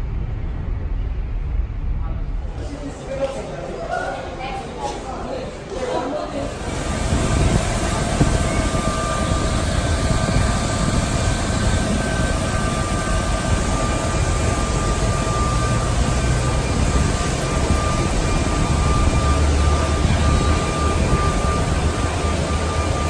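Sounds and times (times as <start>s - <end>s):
jet engines in airliner cabin: 0.0s - 3.2s, 6.3s - 23.0s.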